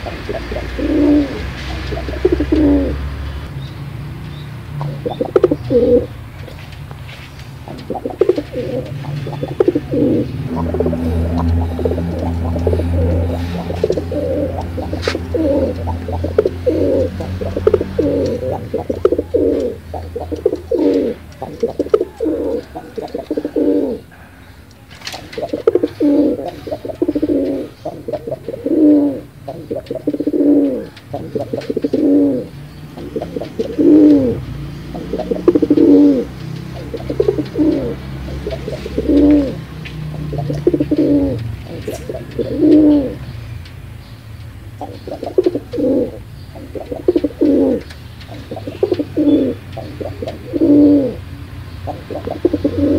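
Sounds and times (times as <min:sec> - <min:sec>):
pigeons cooing: 0:00.0 - 0:03.6, 0:04.3 - 0:52.9.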